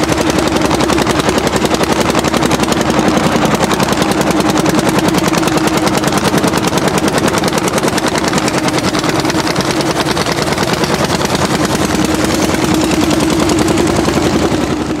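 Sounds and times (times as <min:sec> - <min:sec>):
tractor engine running at full throttle: 0:00.0 - 0:15.0.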